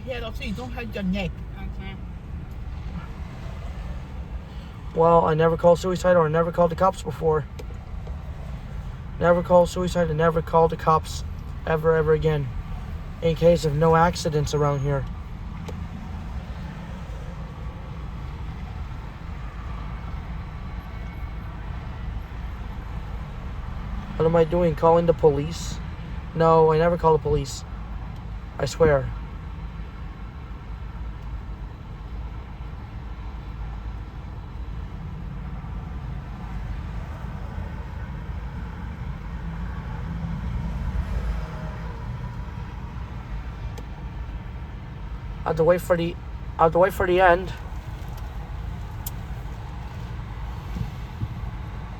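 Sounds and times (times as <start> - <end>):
low vehicle rumble: 0.0 - 51.9.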